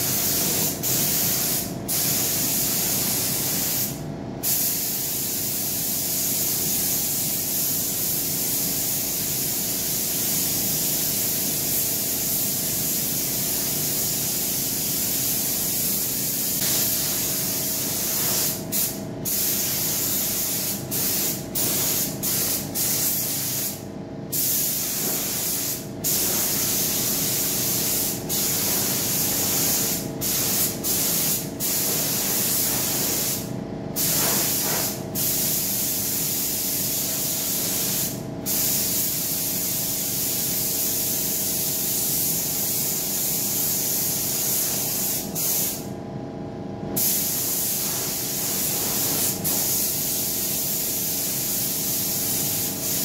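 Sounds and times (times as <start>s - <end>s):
spray gun hissing: 0.0s - 45.8s, 47.0s - 53.0s.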